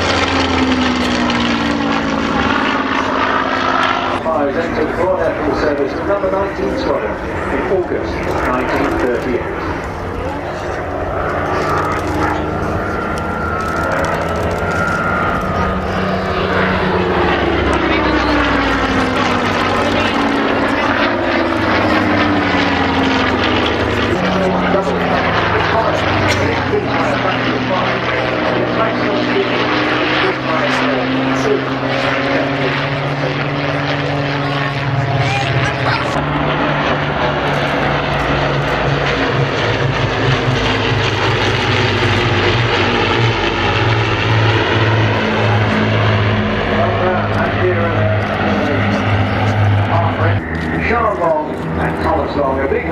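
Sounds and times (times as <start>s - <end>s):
propeller aircraft engine passing: 0.0s - 52.9s.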